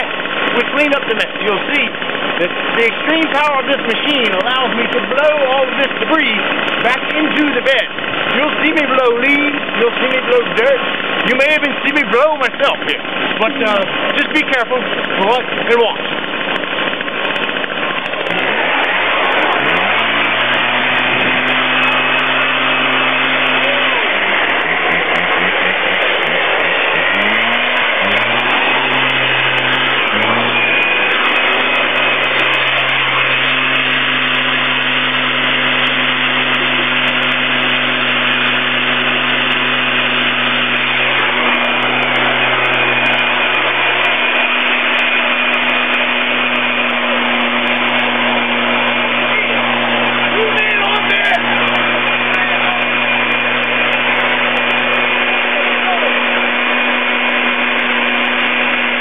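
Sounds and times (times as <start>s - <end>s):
backpack leaf blower running: 0.0s - 59.0s.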